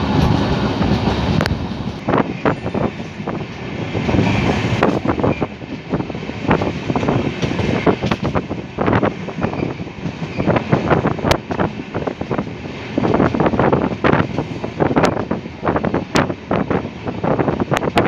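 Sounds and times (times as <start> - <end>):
train wheels clacking on track: 0.0 - 16.4
wind buffeting microphone: 0.0 - 18.0.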